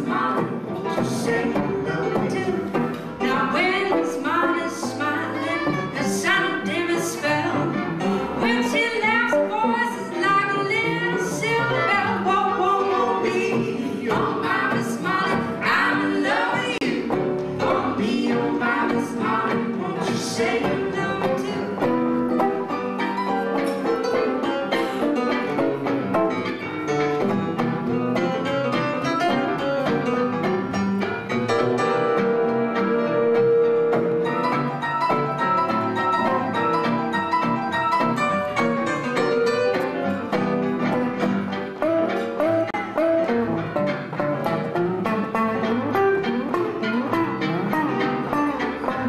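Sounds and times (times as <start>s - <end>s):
fiddle melody: 0.0s - 16.8s, 17.4s - 49.0s
live swing band playing: 0.0s - 49.0s.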